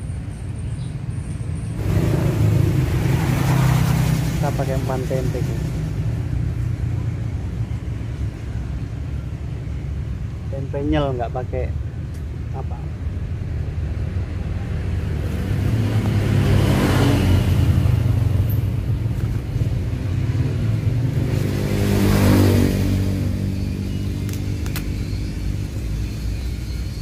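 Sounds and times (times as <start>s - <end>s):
motor vehicles passing: 0.0s - 27.0s.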